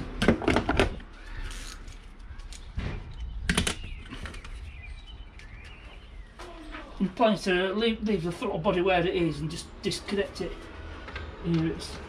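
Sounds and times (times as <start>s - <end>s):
faint birdsong: 0.9s - 12.0s.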